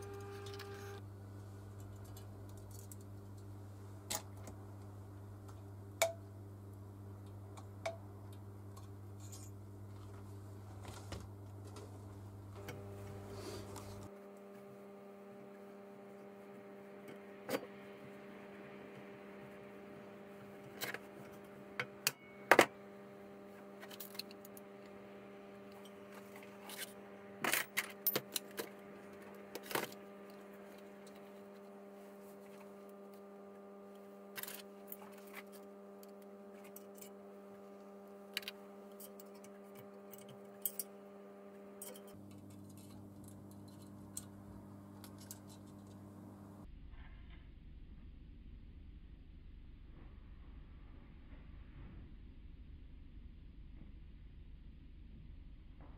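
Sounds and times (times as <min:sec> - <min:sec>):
steady electrical hum: 0:00.0 - 0:55.9.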